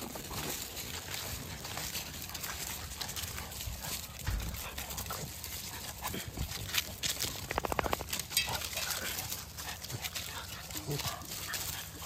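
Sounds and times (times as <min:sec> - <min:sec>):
puppies scuffling on dry leaves: 0:00.0 - 0:12.0.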